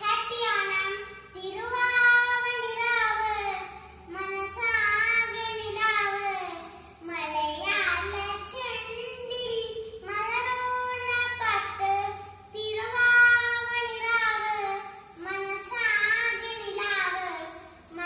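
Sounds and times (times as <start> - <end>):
girl singing unaccompanied: 0.0 - 18.0.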